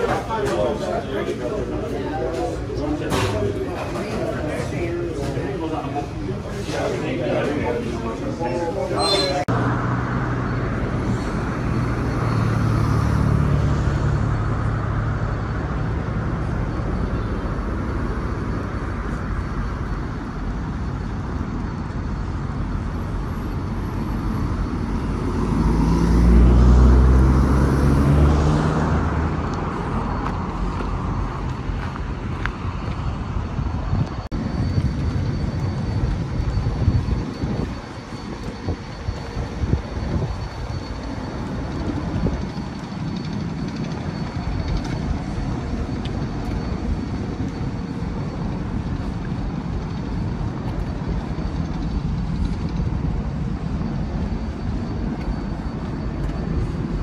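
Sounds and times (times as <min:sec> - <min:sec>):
cars driving past: 0:00.0 - 0:57.0.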